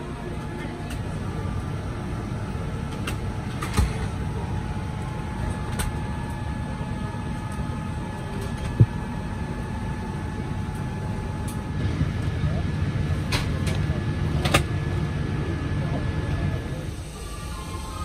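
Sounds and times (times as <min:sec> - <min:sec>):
airliner cabin noise: 0:00.0 - 0:18.0
faint steady whine: 0:00.0 - 0:18.0.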